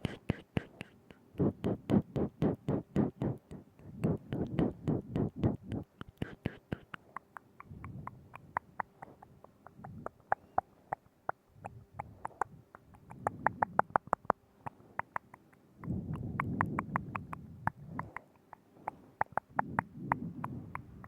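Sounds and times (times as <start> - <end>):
tongue and lip clicks: 0.0 - 21.0.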